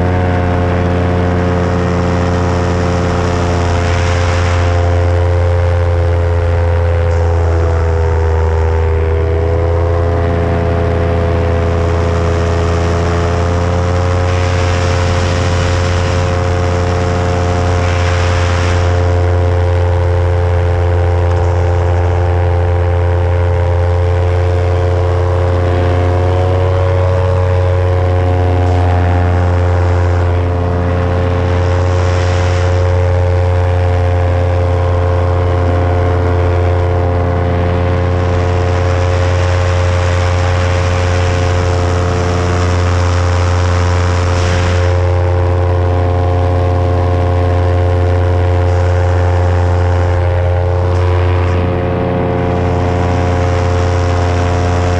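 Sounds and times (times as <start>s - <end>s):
paramotor engine and propeller: 0.0s - 54.9s.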